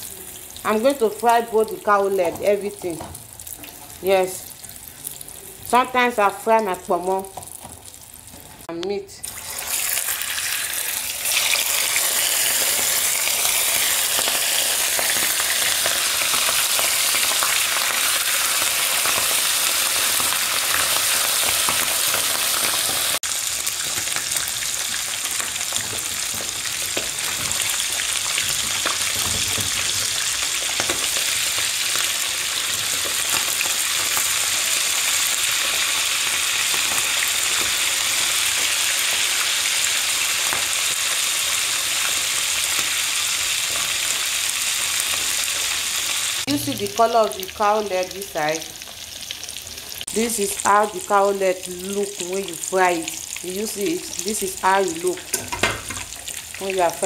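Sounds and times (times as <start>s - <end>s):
meat sizzling in hot oil: 0.0s - 57.0s.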